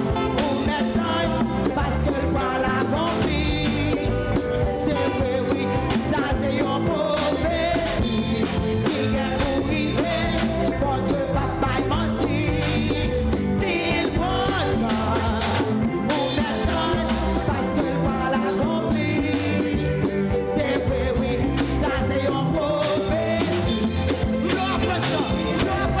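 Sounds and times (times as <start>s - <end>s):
live band music: 0.0s - 26.0s
person singing: 0.0s - 26.0s.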